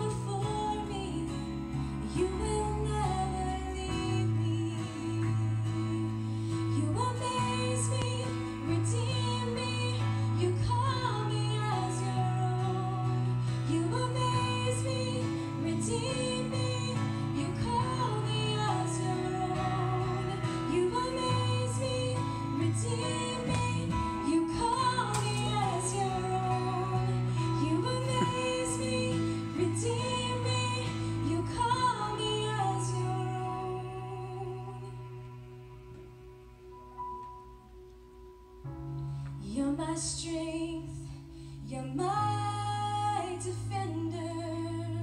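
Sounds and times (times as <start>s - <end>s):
woman singing into microphone: 0.0s - 36.0s, 39.4s - 45.0s.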